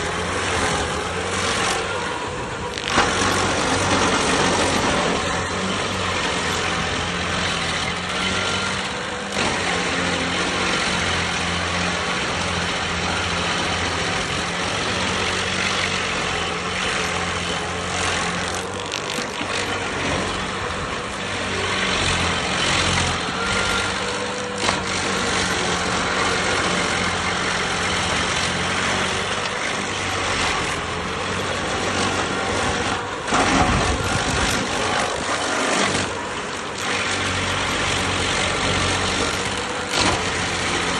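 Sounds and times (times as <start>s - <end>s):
cutter wheel grinding stump: 0.0s - 40.9s
stump grinder engine hum: 0.0s - 40.9s.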